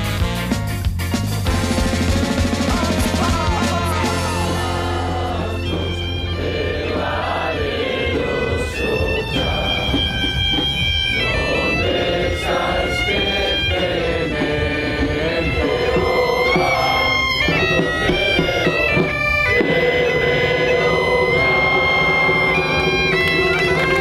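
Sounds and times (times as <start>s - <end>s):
bagpipe drone: 1.5s - 24.0s
bagpipe melody: 1.5s - 24.0s.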